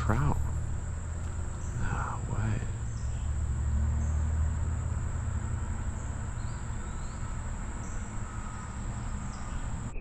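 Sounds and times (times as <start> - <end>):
insect chorus droning: 0.0 - 10.0.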